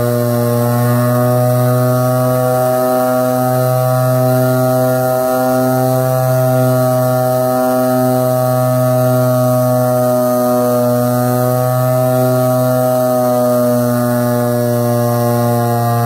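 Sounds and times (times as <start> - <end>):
paramotor engine and propeller drone: 0.0 - 16.0.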